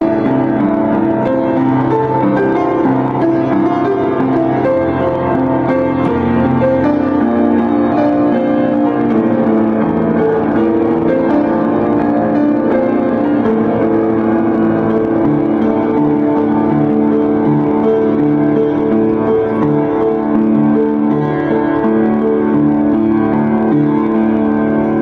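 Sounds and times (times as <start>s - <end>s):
piano playing sustained notes: 0.0s - 25.0s.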